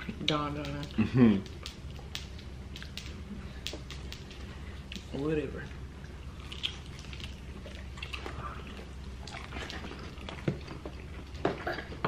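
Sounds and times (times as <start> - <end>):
steady low hum: 0.0 - 12.0
wet chewing and lip smacks: 0.0 - 12.0.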